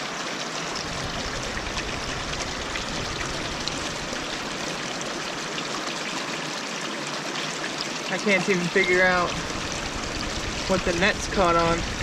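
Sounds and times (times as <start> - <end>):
small water splashes: 0.0 - 12.0
stream rushing over rocks: 0.0 - 12.0.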